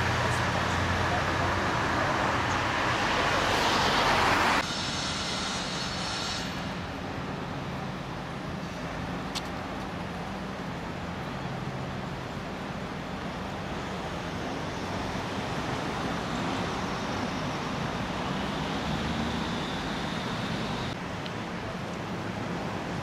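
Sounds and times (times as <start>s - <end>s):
passing cars rumbling: 0.0s - 4.7s, 6.5s - 21.0s.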